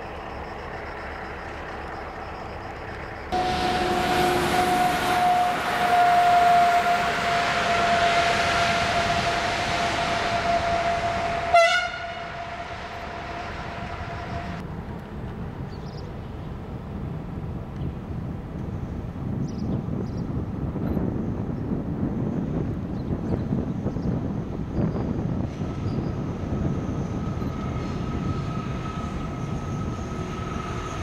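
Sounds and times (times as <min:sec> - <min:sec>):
train rolling through station: 0:00.0 - 0:31.0.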